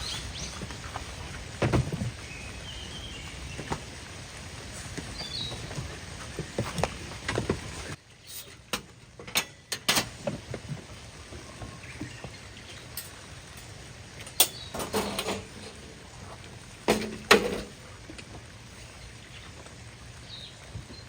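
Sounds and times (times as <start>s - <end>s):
light rain pattering: 0.0s - 8.0s, 9.9s - 21.0s.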